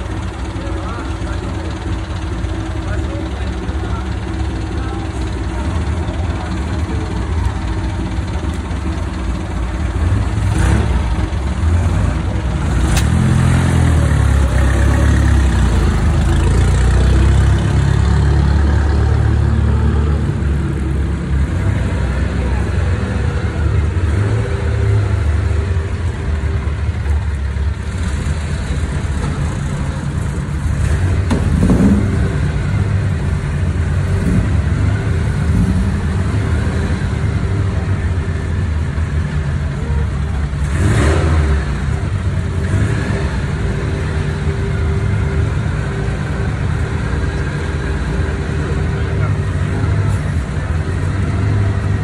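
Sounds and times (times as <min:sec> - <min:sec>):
sports car engine idling and revving: 0:00.0 - 0:52.0.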